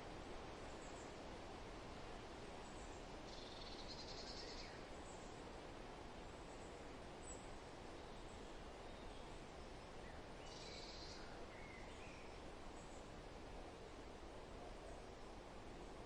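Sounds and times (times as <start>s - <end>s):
wind rustling through foliage: 0.0s - 16.0s.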